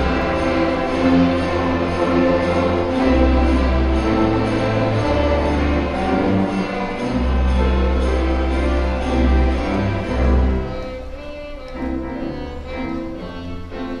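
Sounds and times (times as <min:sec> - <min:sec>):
school orchestra playing: 0:00.0 - 0:14.0.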